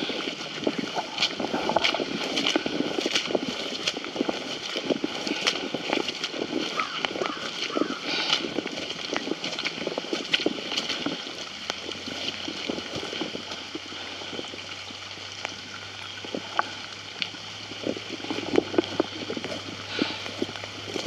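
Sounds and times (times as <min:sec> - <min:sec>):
creek water flowing: 0:00.0 - 0:21.0
low steady hum: 0:00.0 - 0:21.0.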